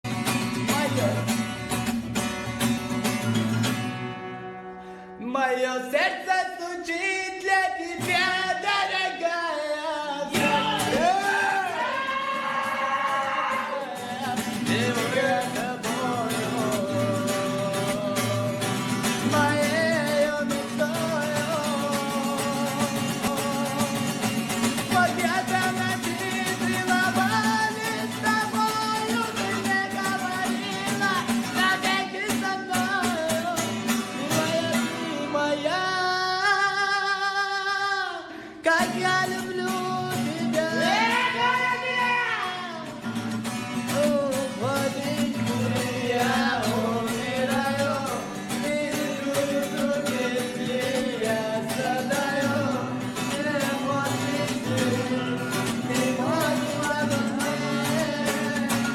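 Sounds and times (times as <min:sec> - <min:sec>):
man singing: 0:00.0 - 0:01.7, 0:05.1 - 0:58.9
strummed acoustic guitar: 0:00.0 - 0:58.9.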